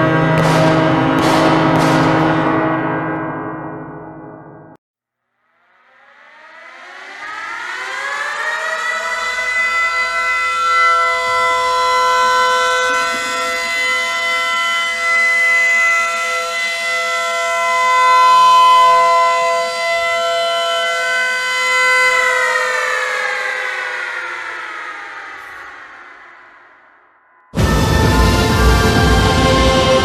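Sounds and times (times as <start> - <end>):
ballpark siren: 0.0 - 3.8, 5.4 - 30.0.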